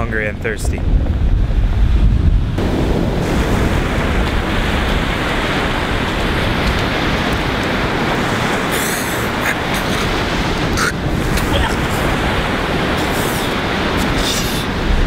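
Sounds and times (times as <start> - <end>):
wind buffeting microphone: 0.0 - 15.0
ocean surf washing on shore: 0.8 - 15.0.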